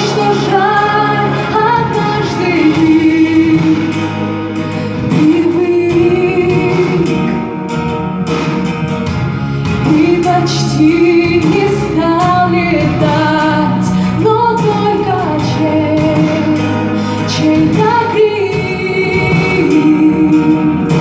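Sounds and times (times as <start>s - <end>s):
instrumental accompaniment: 0.0s - 21.0s
woman singing with vibrato: 0.0s - 21.0s.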